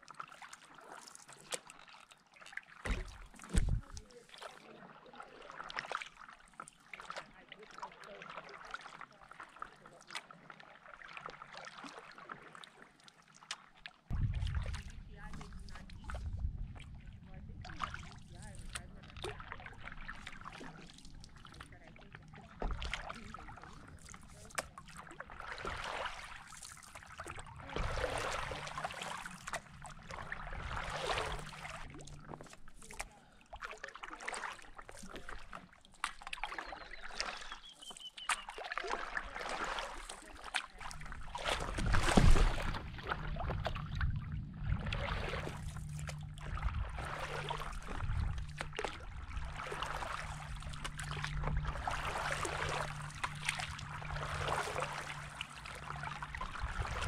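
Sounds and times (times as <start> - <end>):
paddle splashing in water: 0.0 - 57.0.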